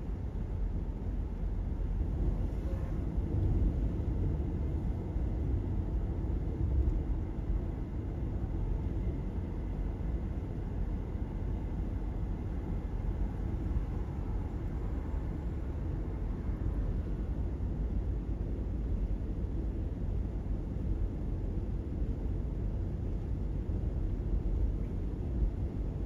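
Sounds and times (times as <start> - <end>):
tyre and road noise inside car: 0.0 - 26.0.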